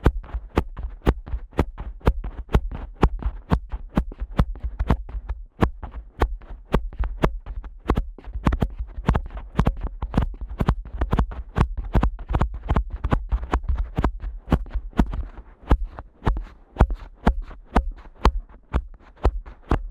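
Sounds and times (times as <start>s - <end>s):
fingers flicking microphone ears: 0.0s - 19.9s.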